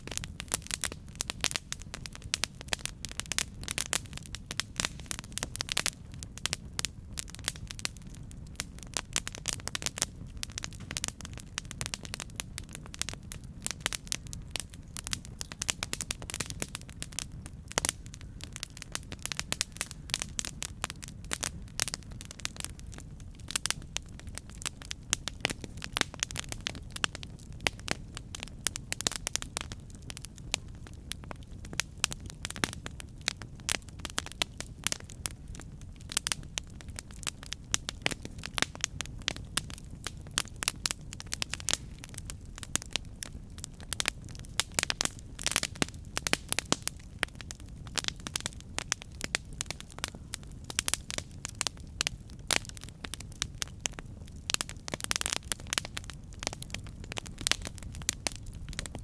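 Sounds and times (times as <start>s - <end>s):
burning wood crackling: 0.0s - 59.0s
low rumble of flames: 0.0s - 59.0s.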